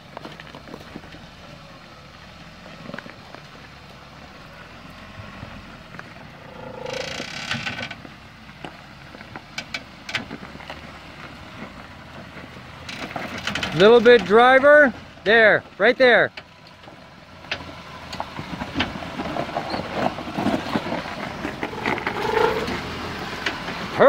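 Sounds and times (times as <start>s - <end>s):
truck engine running low: 0.0s - 24.0s.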